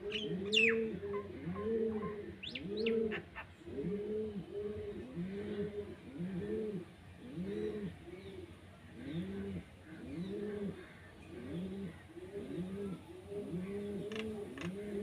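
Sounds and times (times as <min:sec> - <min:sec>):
bird cooing: 0:00.0 - 0:15.0.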